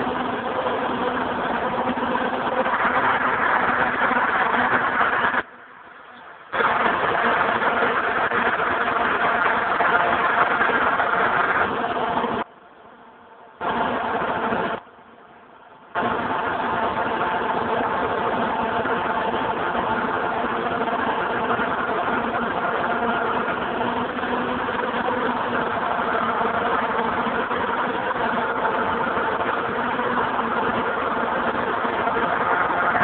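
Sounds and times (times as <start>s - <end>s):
steady machine engine noise: 0.0s - 33.0s.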